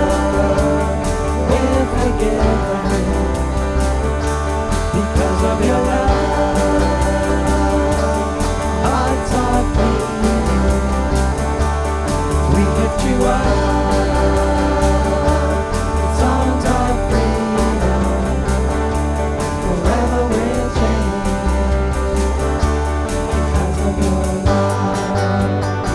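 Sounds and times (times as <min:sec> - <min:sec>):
person singing: 0:00.0 - 0:22.6, 0:23.3 - 0:25.6
worship band playing: 0:00.0 - 0:25.9.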